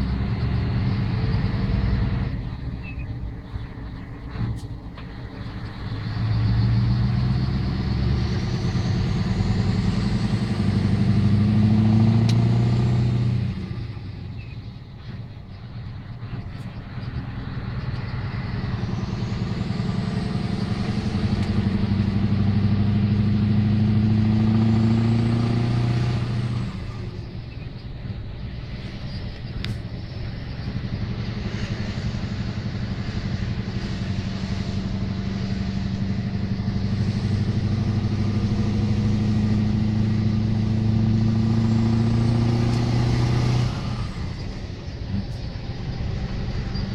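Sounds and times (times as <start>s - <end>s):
diesel engine revving: 0.0s - 46.9s.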